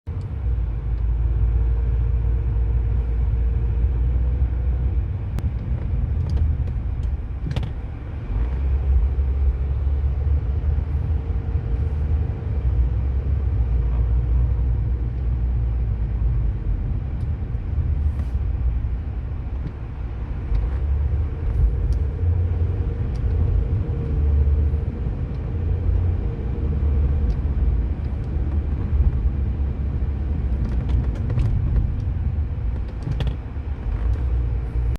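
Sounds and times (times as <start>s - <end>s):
car engine low rumble: 0.0s - 34.9s.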